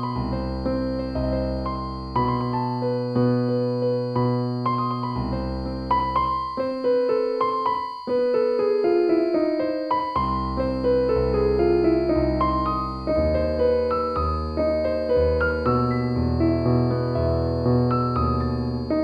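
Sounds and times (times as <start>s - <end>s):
slow calm piano music: 0.0s - 19.0s.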